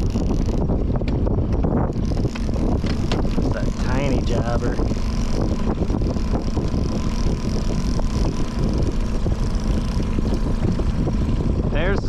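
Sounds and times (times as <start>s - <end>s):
outboard motor rumbling: 0.0s - 12.0s
wind buffeting microphone: 0.0s - 12.0s.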